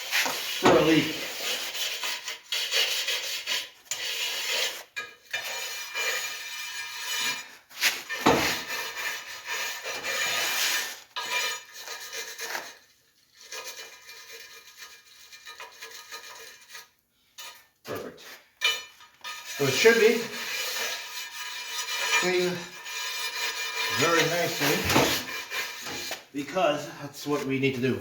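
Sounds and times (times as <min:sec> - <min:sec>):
wire brush scraping rubber: 0:00.0 - 0:17.0, 0:19.1 - 0:26.5.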